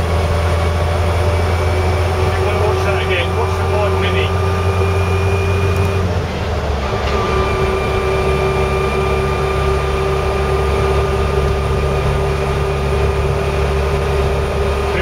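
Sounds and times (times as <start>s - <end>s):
engine and drivetrain rumble: 0.0s - 15.0s
steady drivetrain whine: 0.0s - 15.0s.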